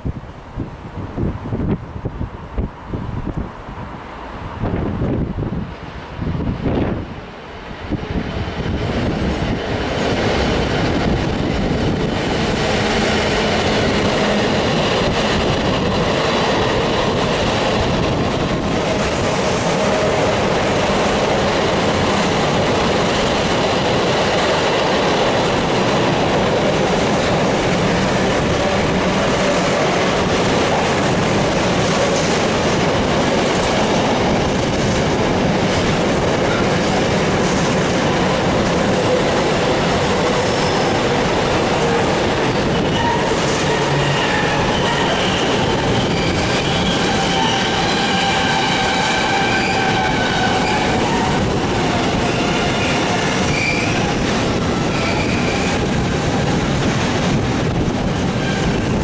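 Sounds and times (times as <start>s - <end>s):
locomotive passing: 7.7s - 59.0s
train wheels clattering on rails: 8.4s - 59.0s.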